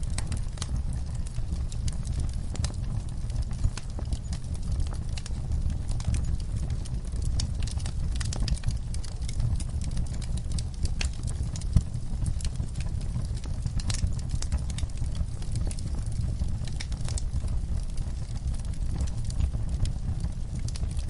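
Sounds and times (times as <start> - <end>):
burning logs crackling and popping: 0.0 - 21.0
fire flames rumbling: 0.0 - 21.0.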